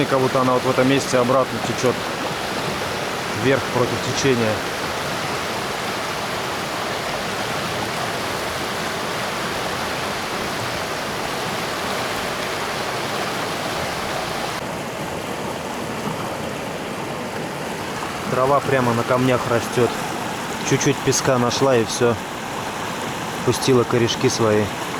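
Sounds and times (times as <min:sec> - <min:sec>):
river rushing over rocks: 0:00.0 - 0:24.9.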